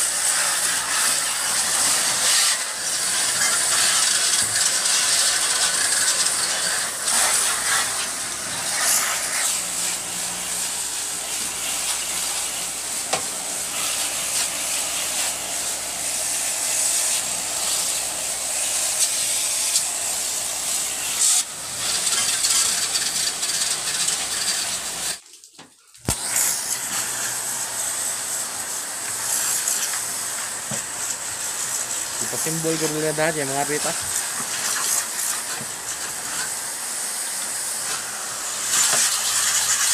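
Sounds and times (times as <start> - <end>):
pressure washer spray hissing: 0.0 - 25.2, 26.1 - 39.9.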